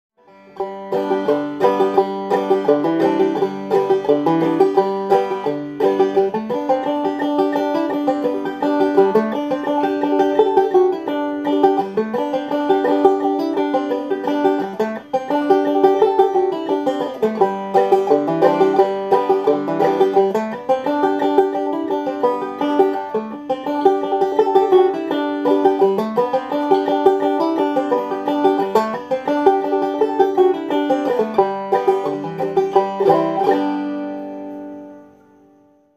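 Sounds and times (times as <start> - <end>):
banjo plucked notes: 0.2 - 35.7.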